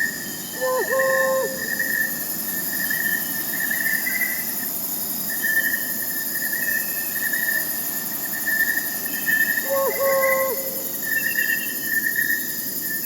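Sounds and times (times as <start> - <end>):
crickets chirping: 0.0 - 13.0
high insect hiss: 0.0 - 13.0.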